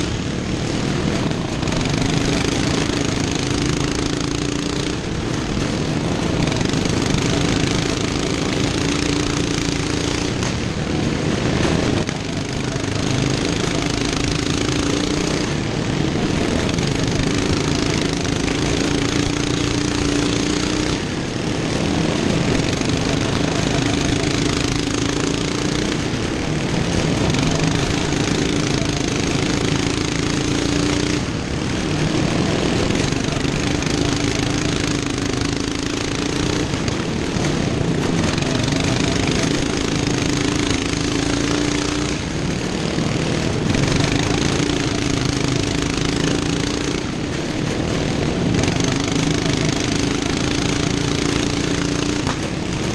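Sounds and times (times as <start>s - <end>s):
lawn mower engines at full throttle: 0.0s - 52.9s.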